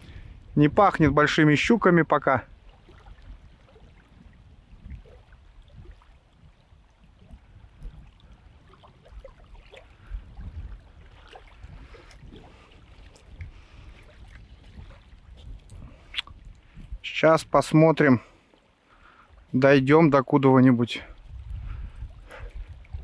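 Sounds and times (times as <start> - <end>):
wind gusting on microphone: 0.0 - 18.2, 21.0 - 23.0.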